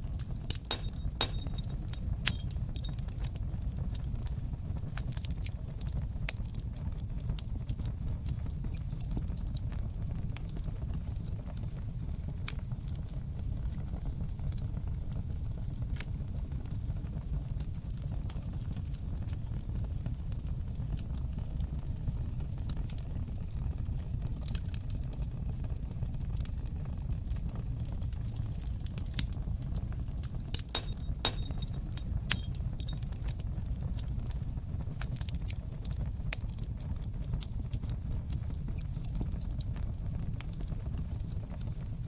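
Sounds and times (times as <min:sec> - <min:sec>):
fire crackling and popping: 0:00.0 - 0:42.0
fire rumbling: 0:00.0 - 0:42.0.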